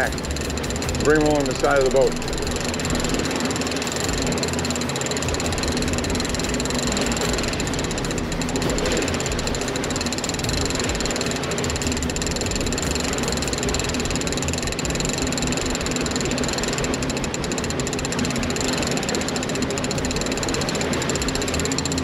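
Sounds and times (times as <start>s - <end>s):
fishing reel clicking: 0.0s - 22.0s.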